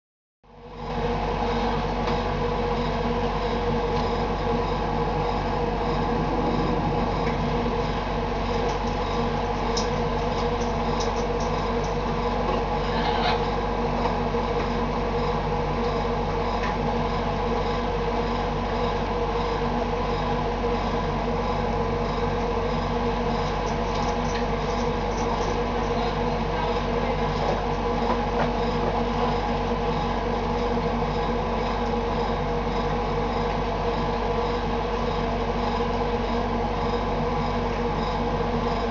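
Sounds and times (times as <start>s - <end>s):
steady machine hum: 0.5s - 38.9s.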